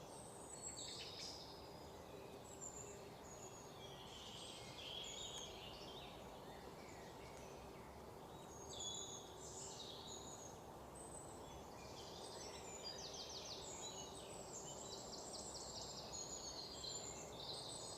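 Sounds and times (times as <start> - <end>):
small birds chirping and singing: 0.0 - 17.9
steady background hiss: 0.0 - 17.9.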